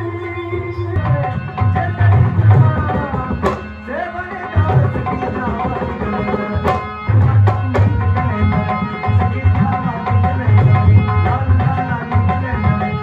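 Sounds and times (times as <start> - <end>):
hand drums beating: 1.0 - 13.0.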